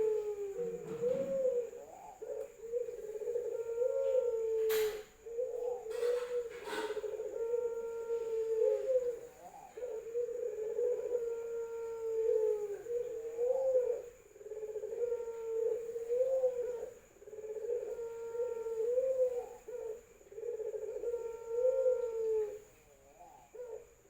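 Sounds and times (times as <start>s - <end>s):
doves cooing: 0.0s - 24.0s.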